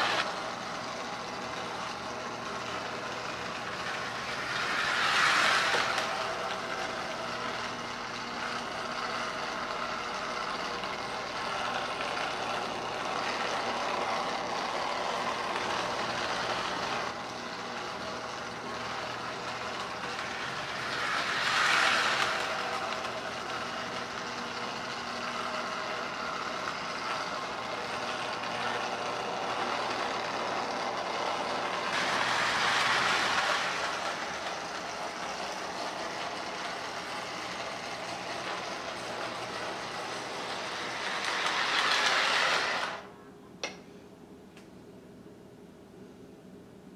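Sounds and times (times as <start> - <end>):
toy train wheel rumble: 0.0 - 43.1
toy train motor hum: 0.0 - 43.2.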